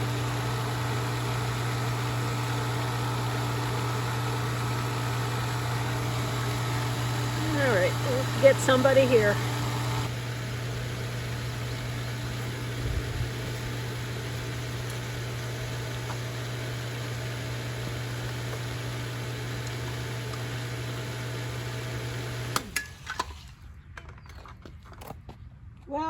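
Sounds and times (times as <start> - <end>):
pool pump motor humming: 0.0 - 23.6.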